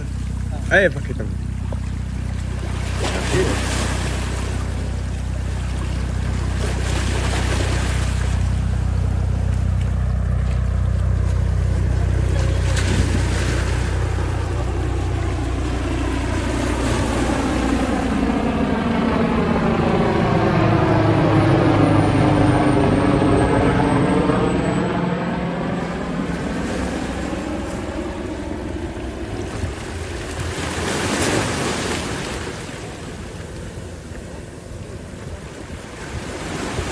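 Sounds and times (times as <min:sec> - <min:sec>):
motorboat engine running: 0:00.0 - 0:36.9.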